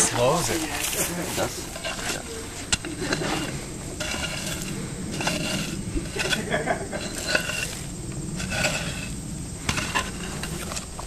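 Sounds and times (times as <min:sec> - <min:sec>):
brick scraping and clicking: 0:00.0 - 0:11.0
wood fire crackling and hissing: 0:00.0 - 0:11.0.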